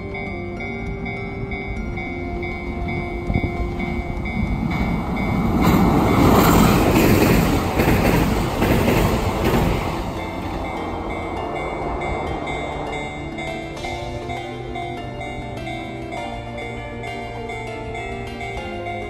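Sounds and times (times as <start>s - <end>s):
electric train passing: 0.0s - 19.0s
soft background music: 0.0s - 19.0s
wheels clacking over rail joints: 0.0s - 19.0s.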